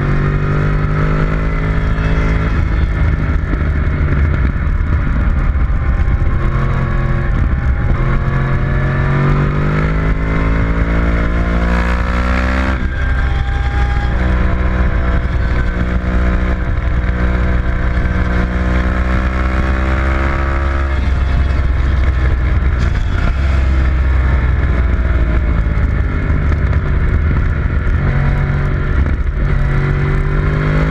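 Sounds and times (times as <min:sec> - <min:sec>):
heavy low rumble: 0:00.0 - 0:30.9
racing engine revving: 0:00.0 - 0:30.9.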